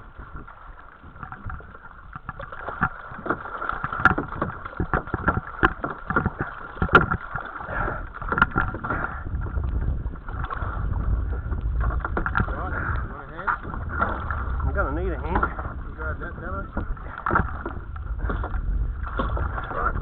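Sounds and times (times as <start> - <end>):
water splashing against boat: 0.0 - 20.0.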